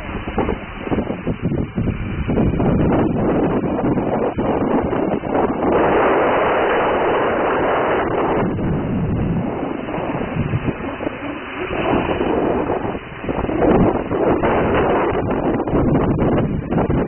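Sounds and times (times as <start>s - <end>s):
drone propellers whirring: 0.0s - 17.0s
wind buffeting microphone: 0.0s - 17.0s.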